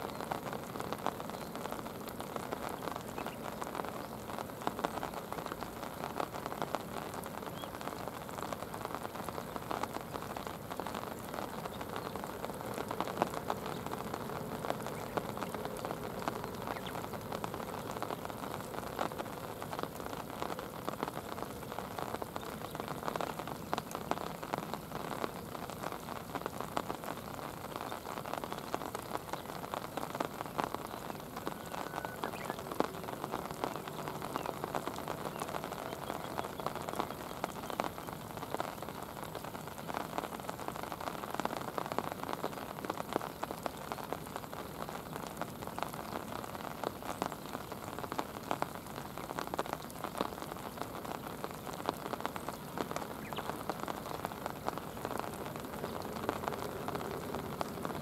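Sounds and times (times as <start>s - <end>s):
rain falling on river: 0.0s - 58.0s.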